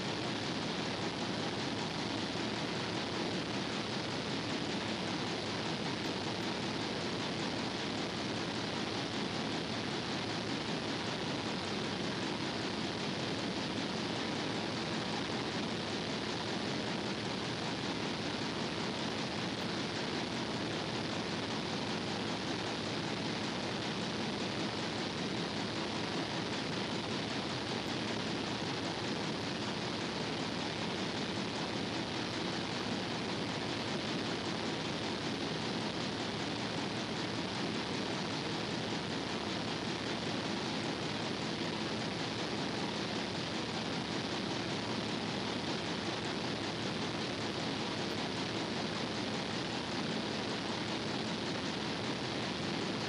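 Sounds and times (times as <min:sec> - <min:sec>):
steady rushing noise: 0:00.0 - 0:53.0.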